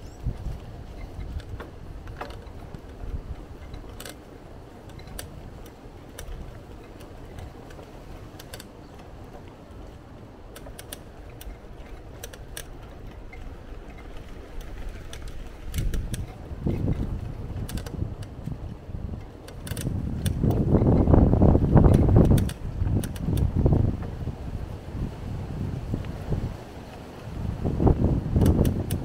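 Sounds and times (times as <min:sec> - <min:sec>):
bicycle clicks and rattles: 0:00.0 - 0:24.2, 0:27.4 - 0:29.0
bicycle rolling rumble: 0:00.0 - 0:29.0.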